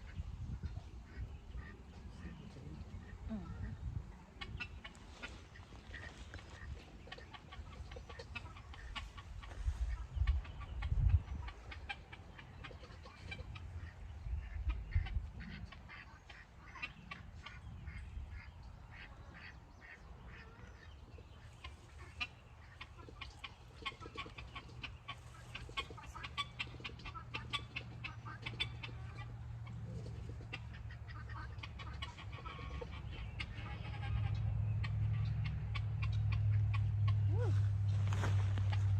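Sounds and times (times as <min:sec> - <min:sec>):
birdsong: 0:00.0 - 0:38.9
chickens clucking: 0:00.0 - 0:38.9.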